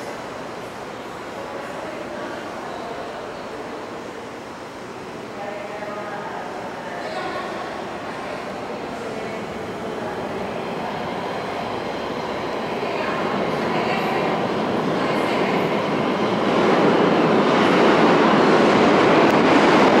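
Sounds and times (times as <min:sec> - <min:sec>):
subway train pulling out: 0:00.0 - 0:20.0.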